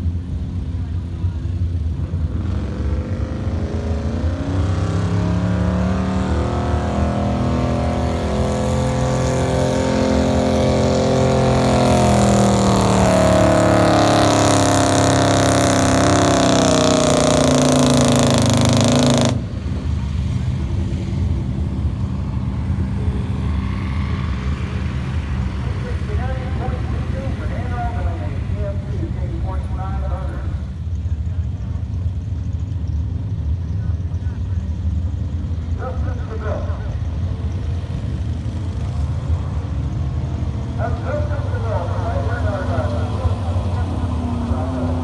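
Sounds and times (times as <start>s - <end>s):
truck engine revving under load: 0.0s - 31.0s, 34.9s - 45.0s.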